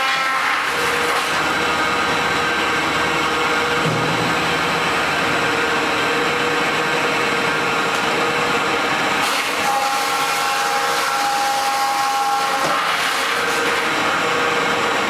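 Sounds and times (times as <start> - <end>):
wood crusher running: 0.0 - 15.0.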